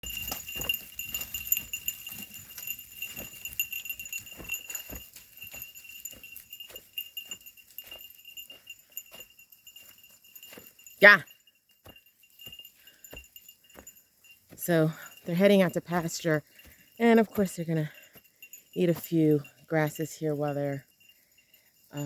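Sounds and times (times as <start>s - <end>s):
sheep hoof steps and rustles: 0.0s - 11.0s, 11.6s - 21.1s.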